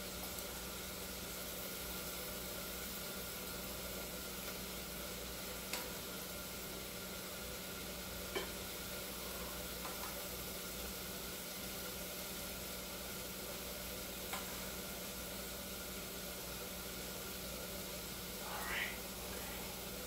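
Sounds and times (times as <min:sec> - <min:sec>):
steady sizzling hiss: 0:00.0 - 0:20.0.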